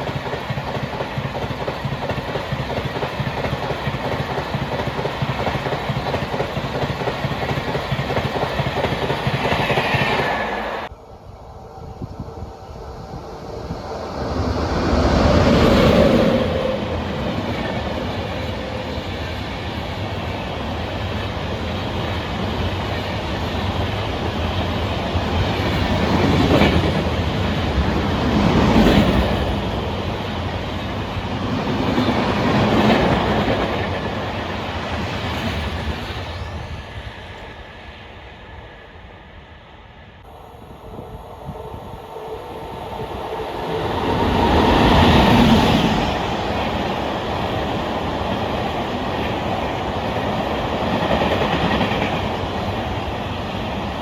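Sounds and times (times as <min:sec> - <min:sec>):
train passing at speed: 0:00.0 - 0:54.0.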